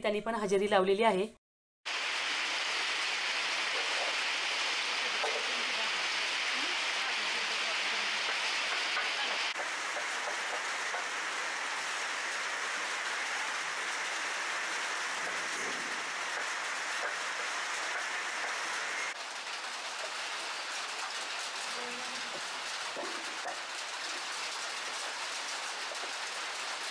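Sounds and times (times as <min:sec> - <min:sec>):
steady rain: 0:01.9 - 0:26.9
rain drop ticks: 0:05.0 - 0:26.9.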